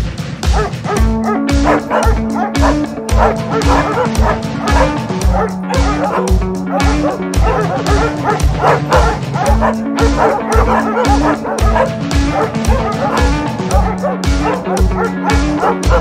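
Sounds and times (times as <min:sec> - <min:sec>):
background music with drum beat: 0:00.0 - 0:16.0
hounds barking and yelping: 0:00.4 - 0:16.0.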